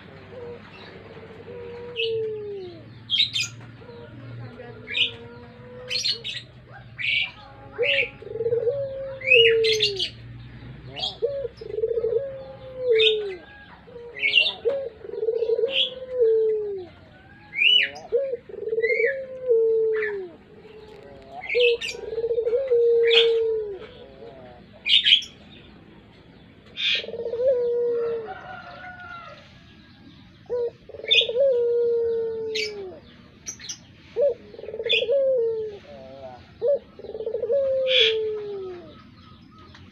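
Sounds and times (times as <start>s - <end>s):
turtle dove cooing: 0.0s - 39.9s.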